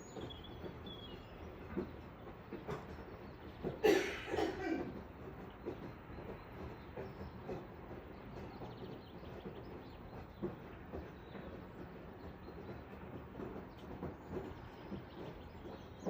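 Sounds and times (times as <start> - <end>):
distant traffic rumble: 0.0 - 16.0
faint bird chirping: 0.0 - 16.0.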